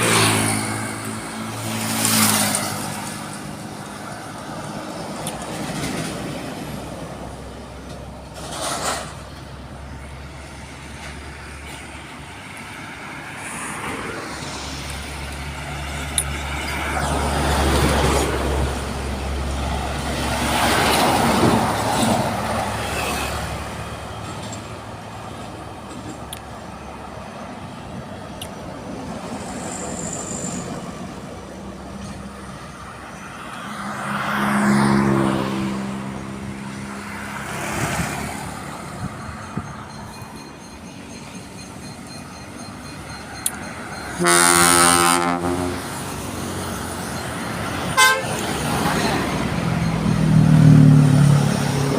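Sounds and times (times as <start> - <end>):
heavy trucks driving past: 0.0 - 51.9.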